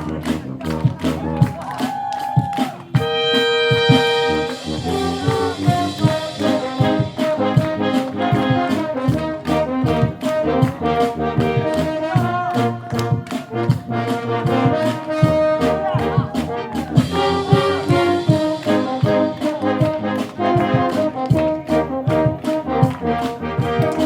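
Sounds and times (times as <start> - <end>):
steady percussion beat: 0.0 - 24.0
brass held notes: 2.9 - 24.0.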